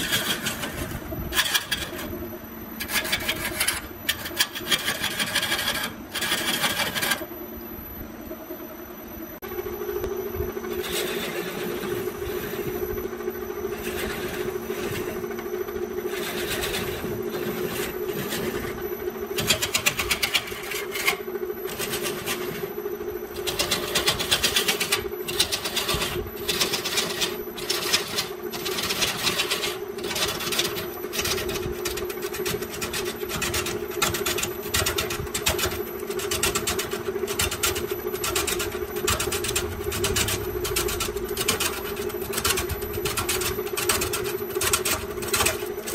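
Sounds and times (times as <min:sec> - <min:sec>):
turning tool scraping wood: 0:00.0 - 0:02.2, 0:02.8 - 0:07.3, 0:10.7 - 0:12.9, 0:13.7 - 0:15.3, 0:16.0 - 0:22.8, 0:23.4 - 0:45.9
wood lathe motor humming: 0:00.0 - 0:07.3, 0:10.0 - 0:45.9.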